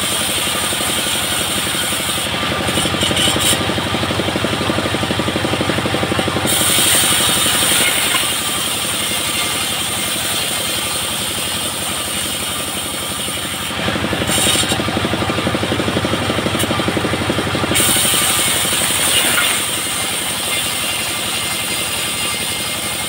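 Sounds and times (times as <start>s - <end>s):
saw hissing: 0.0s - 15.0s, 17.6s - 23.0s
diesel engine chugging: 0.0s - 23.0s.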